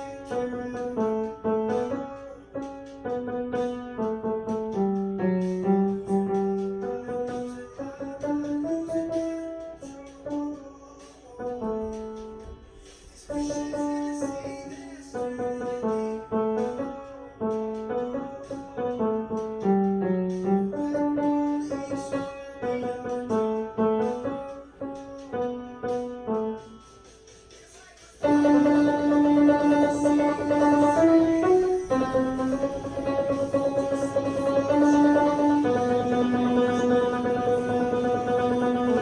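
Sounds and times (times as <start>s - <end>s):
piano melody over chords: 0.0s - 27.6s, 28.2s - 39.0s.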